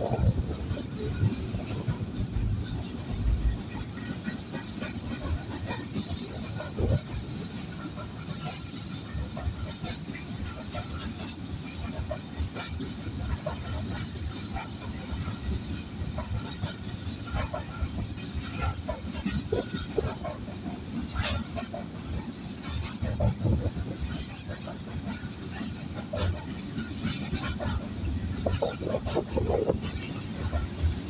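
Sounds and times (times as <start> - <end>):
train wagons rumbling on rails: 0.0 - 31.0.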